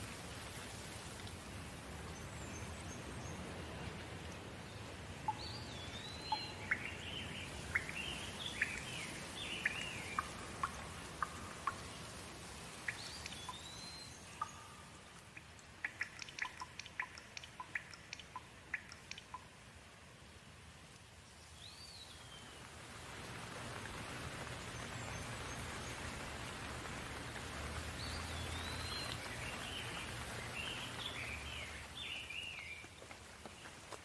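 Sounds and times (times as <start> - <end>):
steady rain: 0.0 - 34.0
water drips: 0.0 - 34.0.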